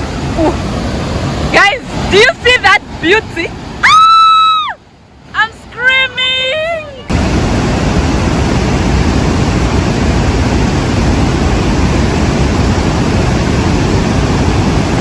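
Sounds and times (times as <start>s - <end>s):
waterfall rushing: 0.0s - 4.6s, 6.3s - 15.0s.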